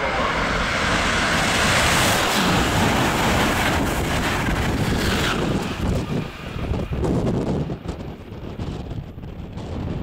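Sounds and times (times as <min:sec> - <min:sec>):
train passing at speed: 0:00.0 - 0:10.0.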